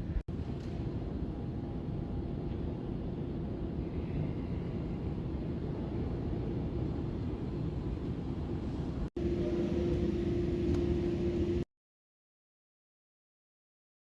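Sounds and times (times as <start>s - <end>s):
airport terminal rumble and hum: 0.0s - 11.7s.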